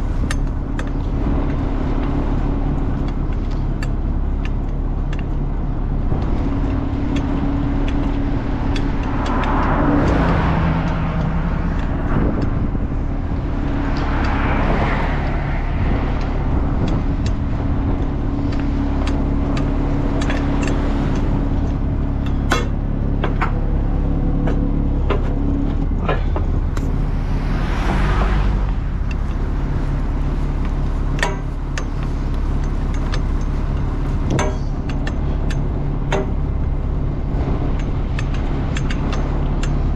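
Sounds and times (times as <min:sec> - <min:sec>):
engine running: 0:00.0 - 0:39.9
rush of noise: 0:00.0 - 0:39.9.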